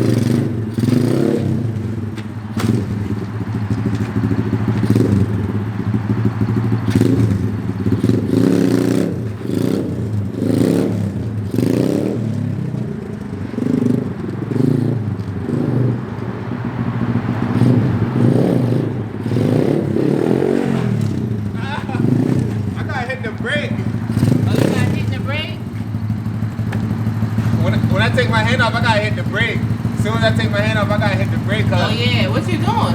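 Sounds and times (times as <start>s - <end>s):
motorbike engine revving: 0.0s - 32.9s.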